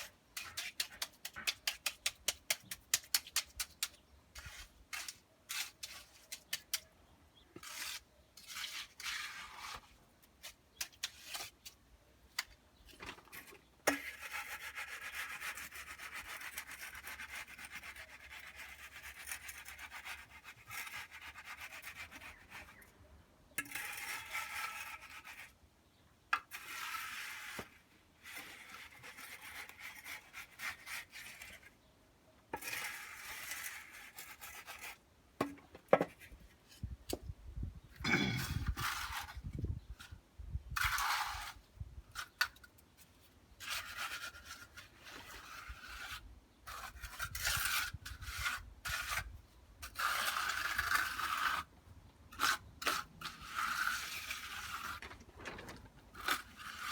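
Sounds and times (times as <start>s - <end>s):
tool scraping wet concrete: 0.0s - 22.9s, 23.5s - 25.6s, 26.4s - 31.8s, 32.5s - 36.8s, 38.1s - 40.2s, 40.8s - 56.9s.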